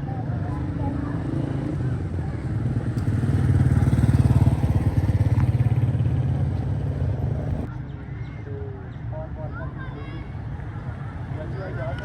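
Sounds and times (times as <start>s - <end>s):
outdoor background: 0.0s - 12.0s.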